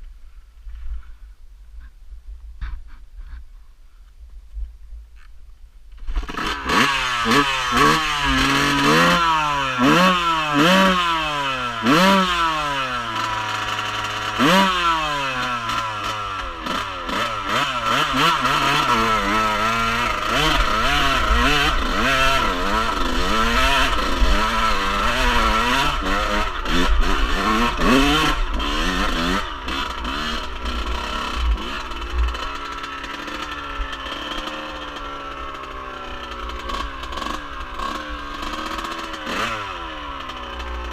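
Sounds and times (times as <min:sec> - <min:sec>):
off-road vehicle engine revving: 0:06.0 - 0:40.9.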